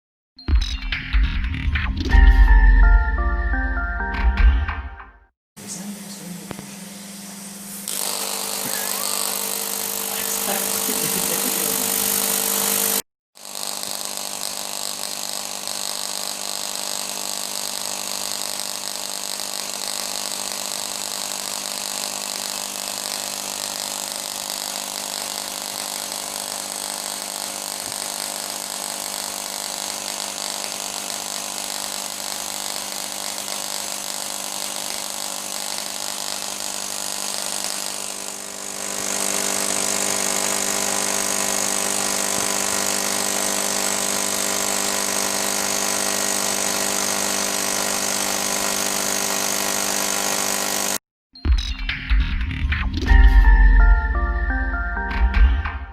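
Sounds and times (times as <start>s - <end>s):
plasma torch buzzing and hissing: 5.6s - 51.0s.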